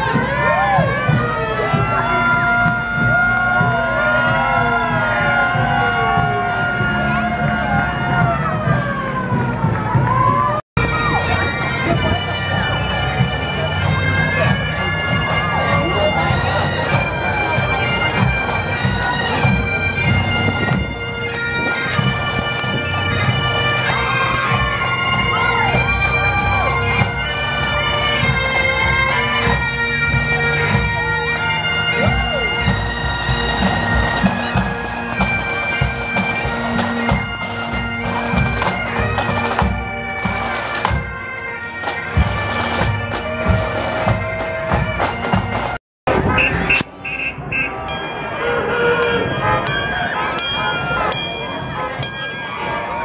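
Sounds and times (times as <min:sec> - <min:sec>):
bagpipes playing melody with drone: 0:00.0 - 0:45.8, 0:46.4 - 0:53.0.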